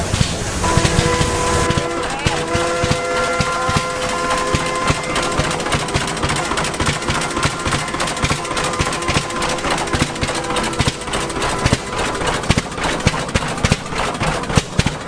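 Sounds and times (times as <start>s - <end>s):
antique engine exhaust knocking: 0.0s - 15.0s
steady pitched tone: 0.6s - 14.6s.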